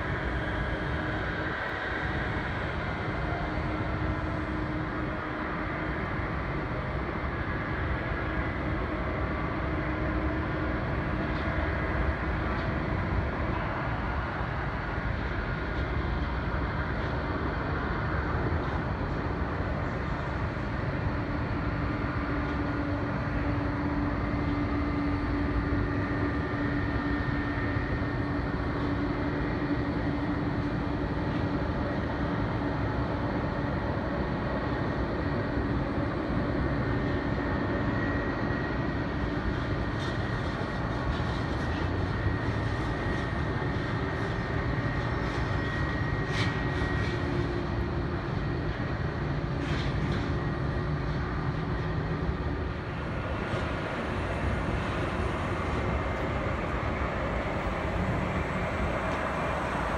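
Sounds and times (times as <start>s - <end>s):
faint whining tones: 0.0s - 59.9s
jet airliners taxiing rumble: 0.0s - 59.9s
steady hum: 0.0s - 59.9s.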